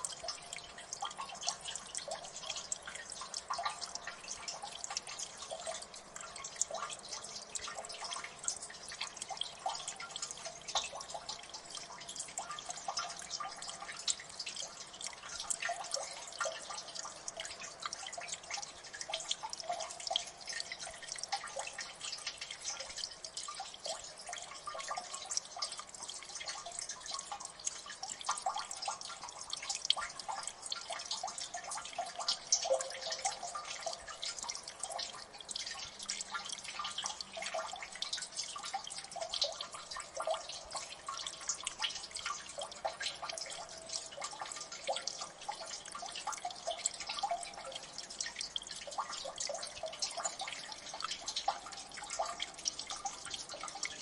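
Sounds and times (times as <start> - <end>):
faint water trickle: 0.0 - 54.0
water dripping into water: 0.0 - 54.0.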